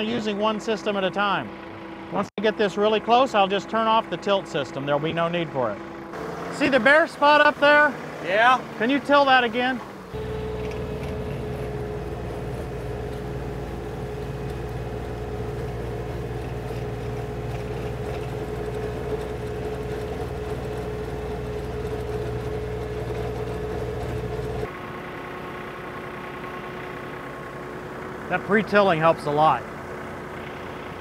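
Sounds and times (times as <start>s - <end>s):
quieter tractor engine running: 0.0s - 31.0s
tractor diesel engine under load: 0.0s - 31.0s
rotary tiller in soil: 6.1s - 31.0s.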